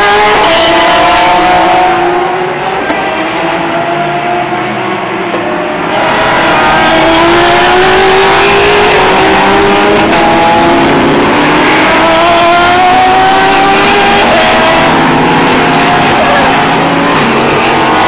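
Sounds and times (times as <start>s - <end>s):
race car engines accelerating: 0.0s - 18.0s.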